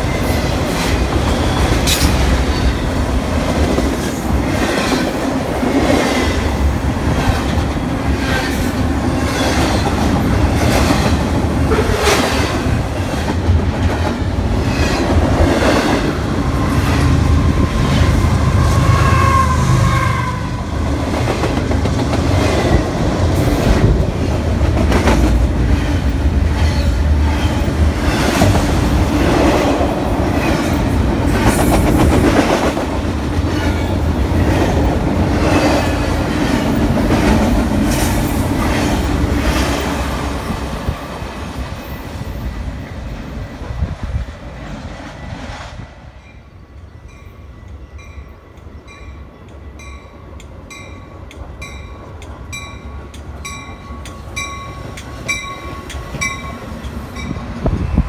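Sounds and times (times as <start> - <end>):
clickety-clack over rail joints: 0.0 - 18.2, 21.0 - 41.7, 49.5 - 58.0
train wheels rumbling on rail: 0.0 - 58.0.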